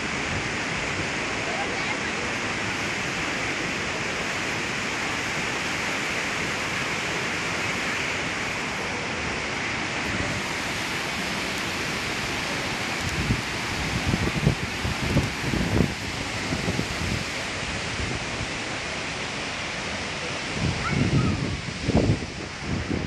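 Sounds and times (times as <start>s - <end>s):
river rushing over boulders: 0.0s - 23.0s.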